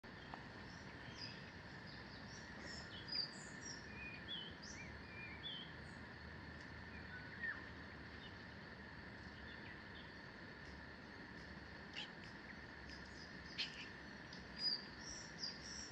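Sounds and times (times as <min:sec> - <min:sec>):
songbirds chirping: 0:00.0 - 0:15.9
faint steady hiss: 0:00.1 - 0:15.9.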